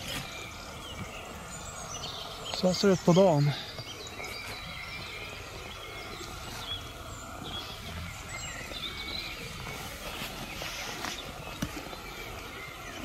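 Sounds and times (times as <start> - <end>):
high bird chirps: 0.0 - 13.0
steady outdoor hiss: 0.0 - 13.0.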